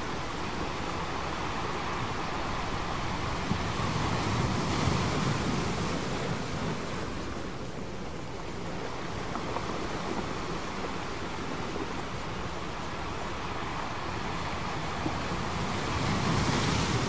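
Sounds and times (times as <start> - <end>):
ocean waves washing in: 0.0 - 17.0.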